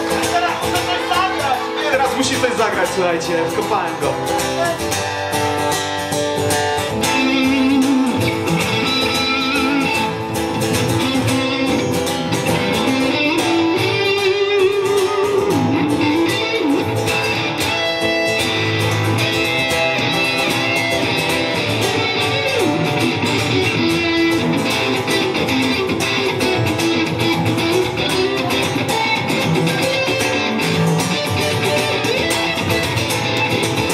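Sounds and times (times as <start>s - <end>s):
electric guitar lead with bent notes: 0.0s - 33.9s
strummed acoustic guitar: 0.0s - 33.9s.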